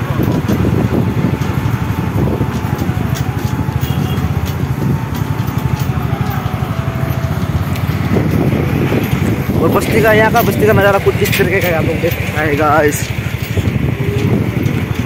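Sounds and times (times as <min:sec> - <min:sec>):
scooter and truck engine rumble: 0:00.0 - 0:15.0.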